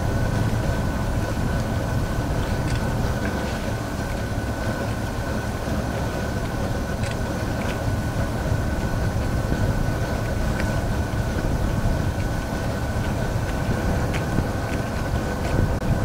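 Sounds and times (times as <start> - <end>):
boat rumbling: 0.0 - 16.0.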